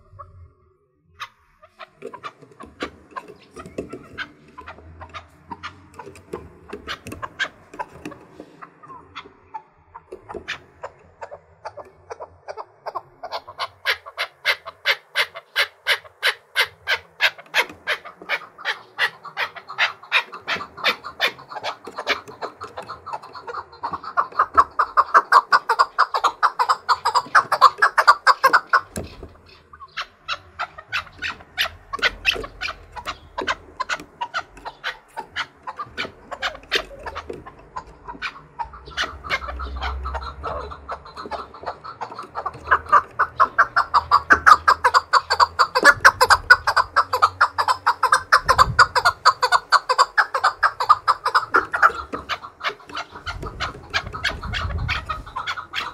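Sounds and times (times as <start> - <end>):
partridge calling: 1.2 - 55.9.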